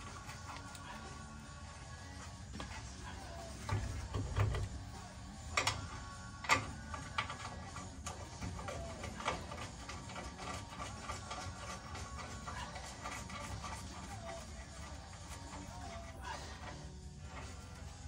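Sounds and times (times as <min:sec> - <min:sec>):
metallic clicks and clanks: 0:03.4 - 0:18.0.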